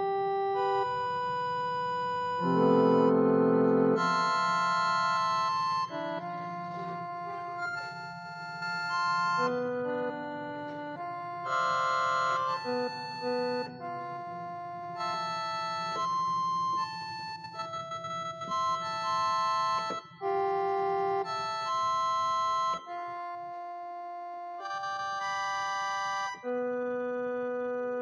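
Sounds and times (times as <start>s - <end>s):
slow organ-like keyboard music: 0.0s - 28.0s.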